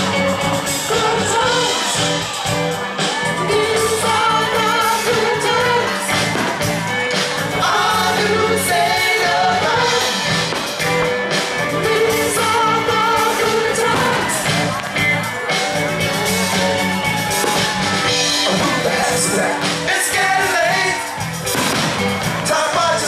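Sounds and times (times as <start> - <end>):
pop music with singing: 0.0 - 23.0.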